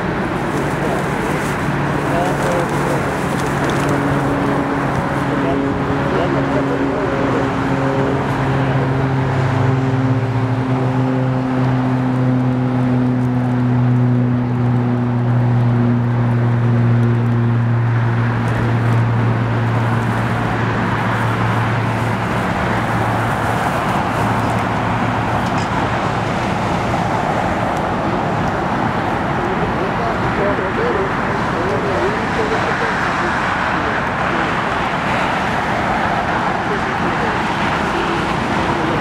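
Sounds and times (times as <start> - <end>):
broad rushing noise: 0.0 - 39.0
engine hum: 0.0 - 39.0.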